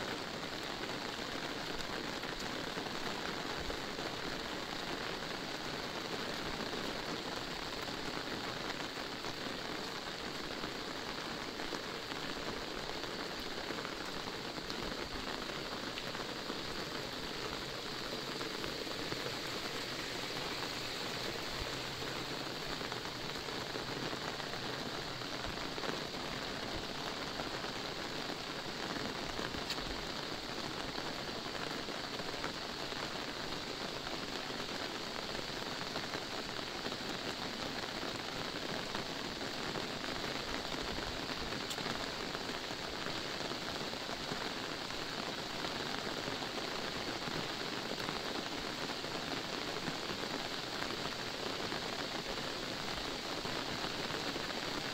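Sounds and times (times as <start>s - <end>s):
rain on umbrella and road: 0.0s - 54.9s.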